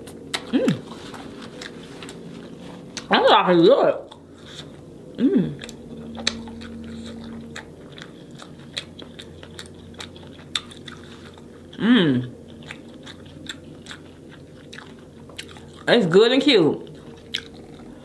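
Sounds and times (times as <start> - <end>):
wet chewing and smacking: 0.0 - 3.1, 4.0 - 4.9, 5.6 - 15.9, 16.8 - 18.0.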